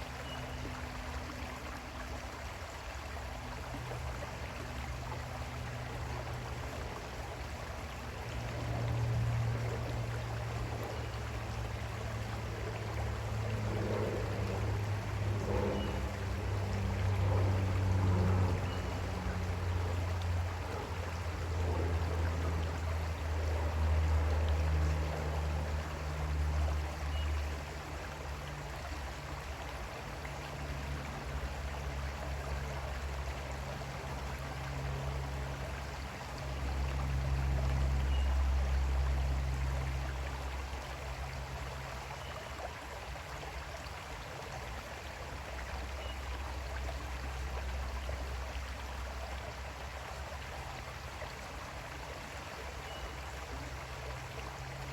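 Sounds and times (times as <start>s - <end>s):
creek water flowing: 0.0s - 54.9s.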